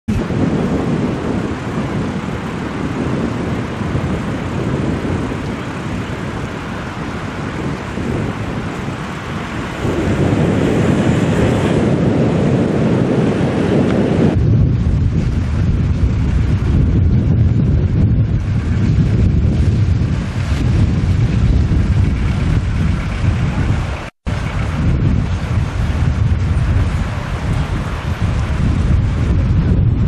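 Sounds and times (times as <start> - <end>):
wind buffeting microphone: 0.1 - 30.0.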